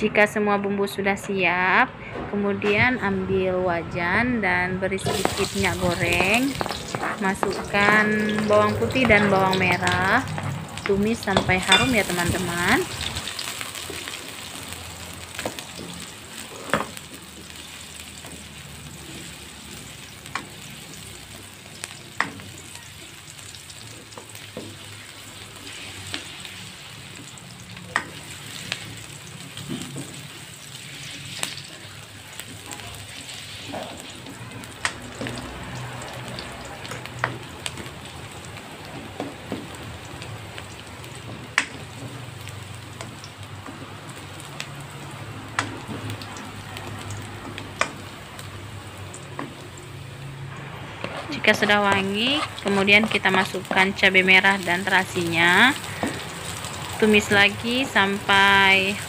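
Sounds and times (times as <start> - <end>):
garlic sizzling in oil: 4.9 - 59.0.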